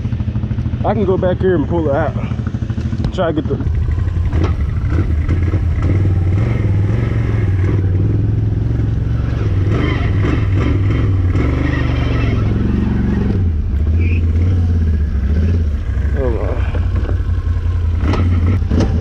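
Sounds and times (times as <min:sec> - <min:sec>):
utility vehicle engine running: 0:00.0 - 0:19.0.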